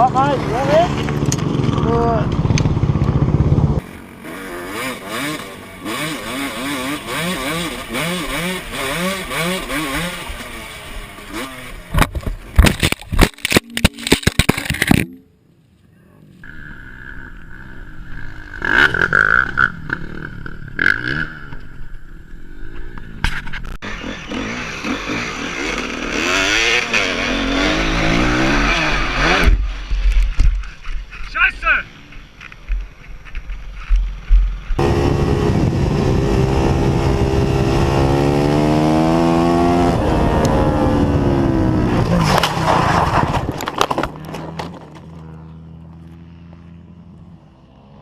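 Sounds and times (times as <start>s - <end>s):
dirt bike engines revving: 0.0s - 15.2s, 16.1s - 48.0s.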